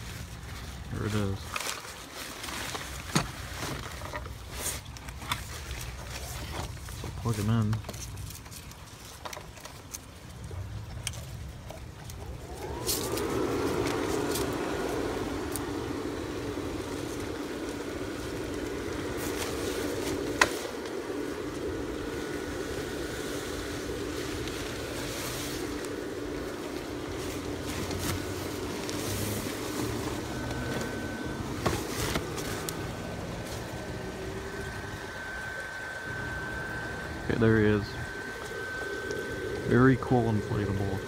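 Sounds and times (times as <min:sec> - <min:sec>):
blower fan whining and humming: 0:00.0 - 0:41.0.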